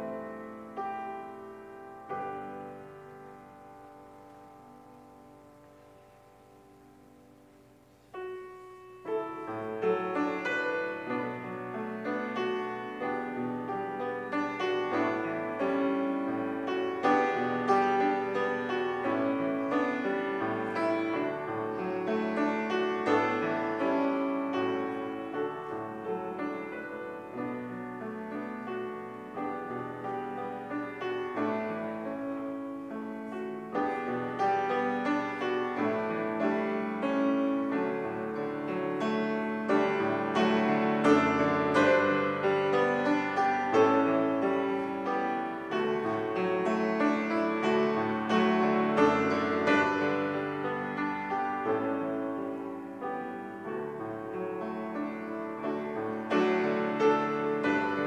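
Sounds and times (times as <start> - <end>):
solo piano playing: 0.0 - 58.0.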